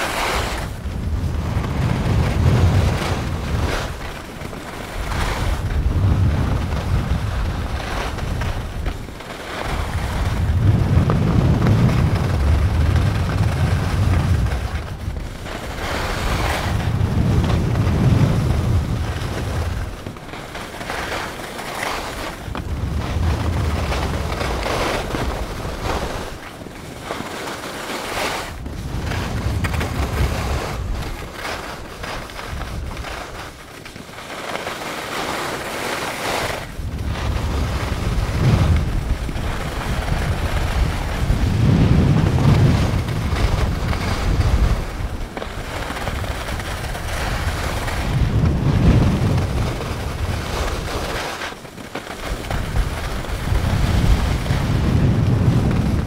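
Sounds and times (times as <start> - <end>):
skis scraping on snow: 0.0 - 56.0
wind rushing over microphone: 0.0 - 56.0.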